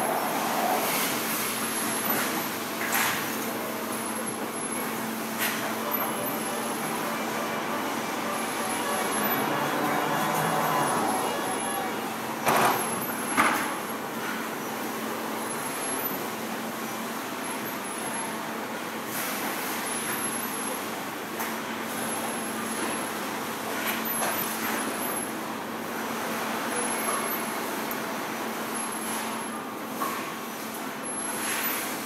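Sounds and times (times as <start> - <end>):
factory machinery hum: 0.0 - 32.0.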